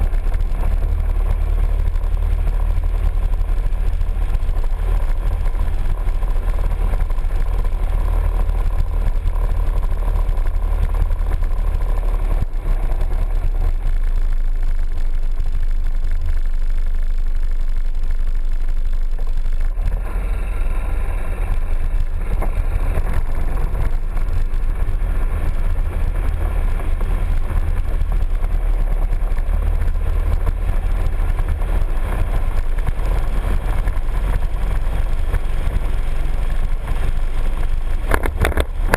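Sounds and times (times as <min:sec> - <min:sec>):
scooter engine and road rumble: 0:00.0 - 0:38.9.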